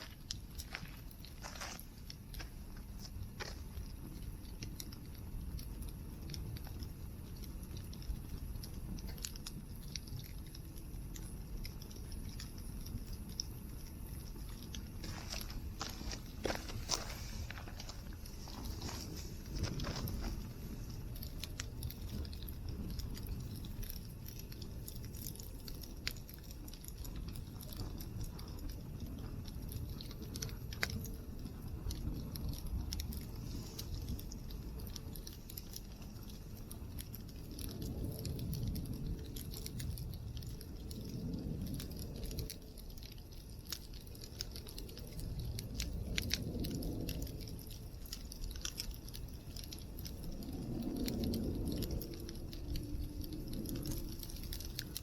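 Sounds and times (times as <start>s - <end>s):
low rumble: 0.0s - 55.0s
wood fire crackling: 0.0s - 55.0s.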